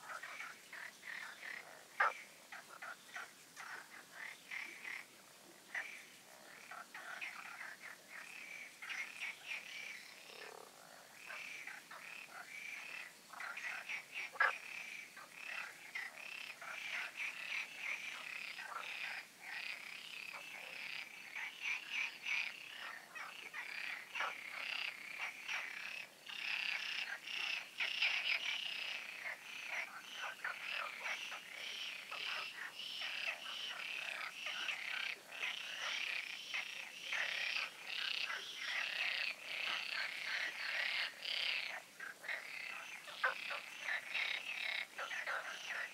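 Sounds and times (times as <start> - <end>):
frogs croaking in chorus: 0.0 - 45.9.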